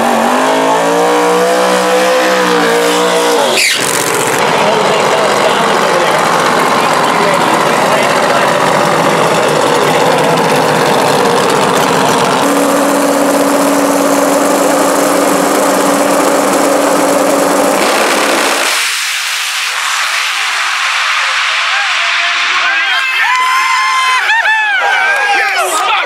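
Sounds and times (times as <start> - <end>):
drag car engine running at high rpm: 0.0 - 22.5.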